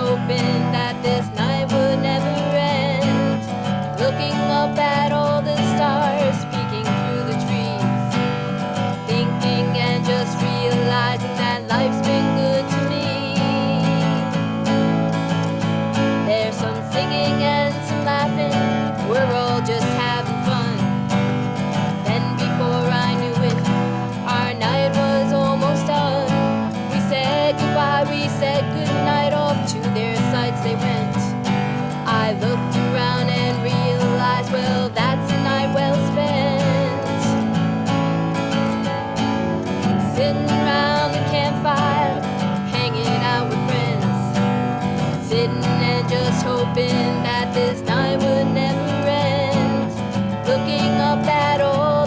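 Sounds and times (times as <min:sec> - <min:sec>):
country song with acoustic guitar: 0:00.0 - 0:52.0.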